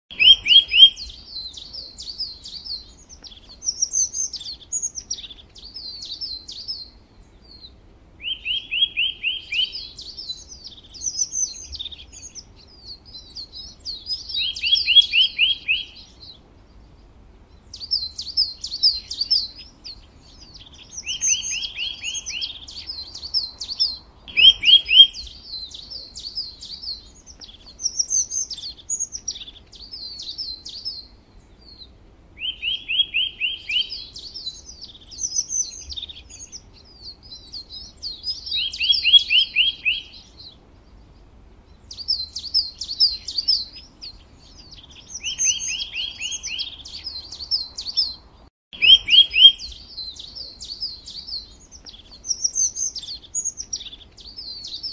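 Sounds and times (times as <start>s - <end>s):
songbird chirping and trilling: 0.1s - 54.9s.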